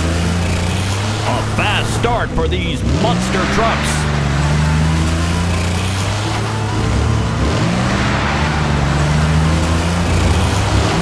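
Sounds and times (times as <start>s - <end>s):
engine revving up: 0.0s - 11.0s
truck engines droning: 0.0s - 11.0s.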